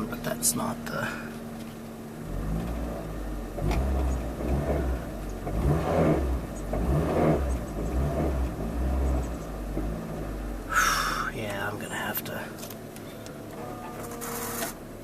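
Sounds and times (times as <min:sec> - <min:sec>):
car engine revving: 0:00.0 - 0:15.0
engine clatter: 0:00.0 - 0:15.0.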